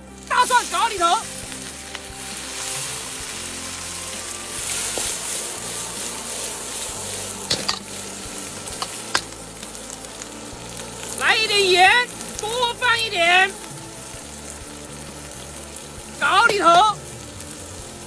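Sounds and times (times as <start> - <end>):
chillies sizzling in hot fat: 0.0 - 18.0.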